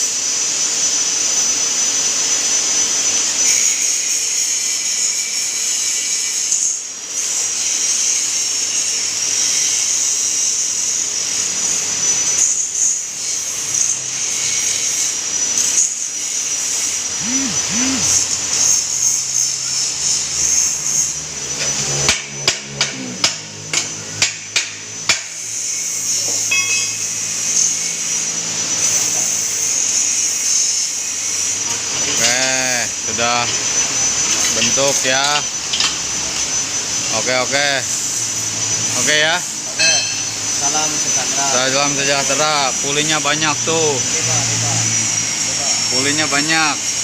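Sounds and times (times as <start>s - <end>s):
plate rolling machine whine: 0.0s - 22.7s, 24.9s - 47.0s.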